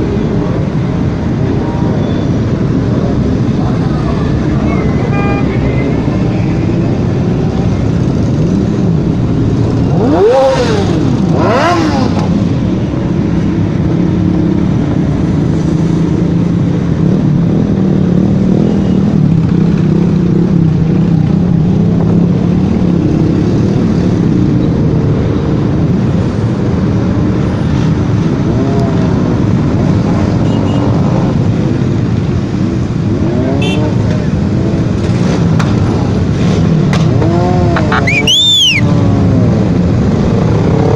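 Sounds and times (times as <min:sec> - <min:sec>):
motorcycle engines droning: 0:00.0 - 0:40.9
motorcycles revving: 0:00.0 - 0:40.9.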